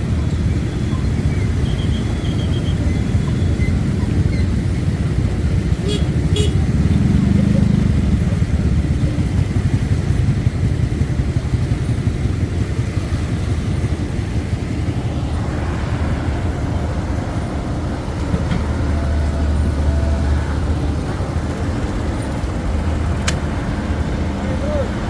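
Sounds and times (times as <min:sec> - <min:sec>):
heavy diesel engines running: 0:00.0 - 0:25.0.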